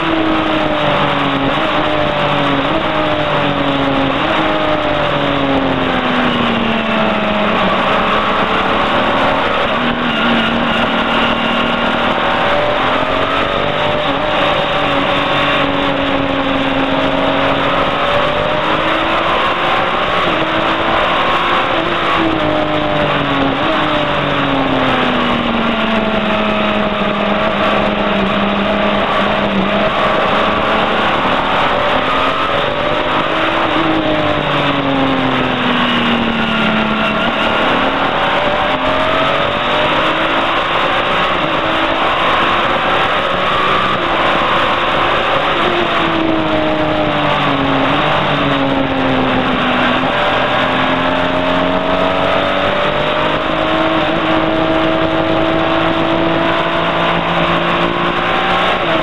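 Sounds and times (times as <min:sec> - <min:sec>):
race car engine revving: 0:00.0 - 0:59.0
steady rushing noise: 0:00.0 - 0:59.0.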